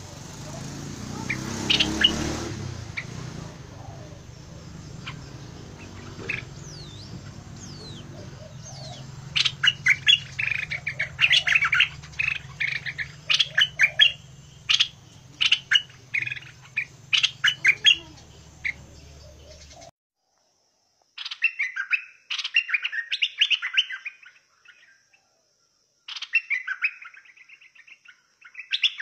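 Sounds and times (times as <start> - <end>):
bird calling and whistling: 0.0 - 19.9, 21.2 - 25.0, 26.1 - 29.0.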